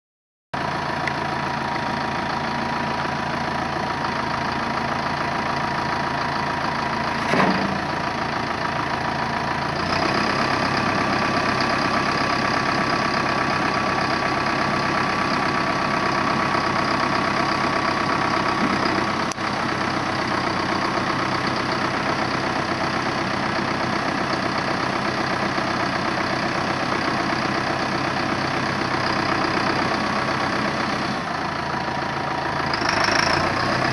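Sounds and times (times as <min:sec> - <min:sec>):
diesel tractor engine running: 0:00.6 - 0:33.9.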